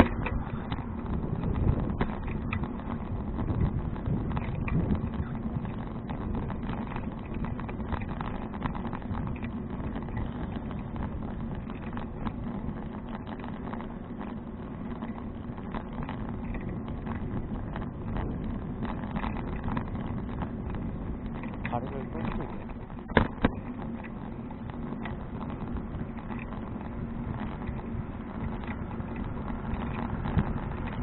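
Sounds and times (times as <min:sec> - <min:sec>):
bicycle tyres rolling: 0:00.0 - 0:31.0
small rattling clicks: 0:00.0 - 0:31.0
wind rush: 0:00.0 - 0:31.0.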